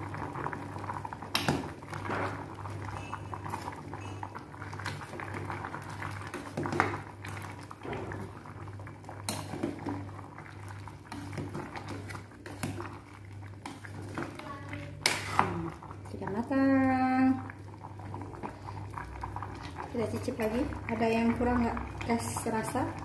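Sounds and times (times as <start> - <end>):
soup bubbling: 0.0 - 23.0.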